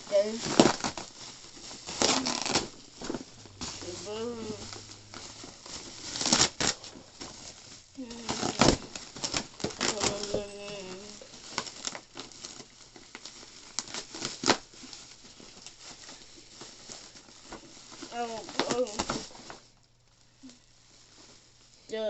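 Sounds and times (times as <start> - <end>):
bubble wrap and tape crackling: 0.0 - 22.0.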